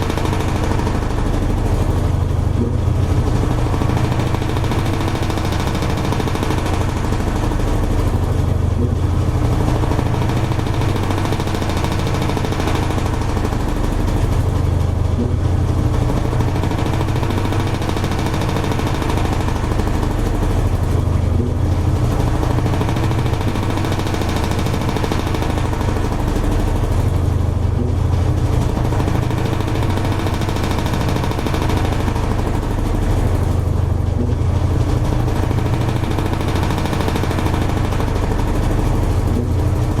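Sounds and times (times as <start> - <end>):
washing machine churning: 0.0 - 40.0
washing machine motor hum: 0.0 - 40.0.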